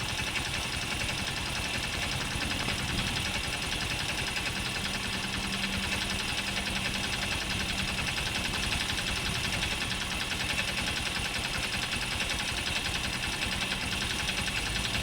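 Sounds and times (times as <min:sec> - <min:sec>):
engine ticking and clattering: 0:00.0 - 0:15.0
motorcycle engine idling: 0:00.0 - 0:15.0.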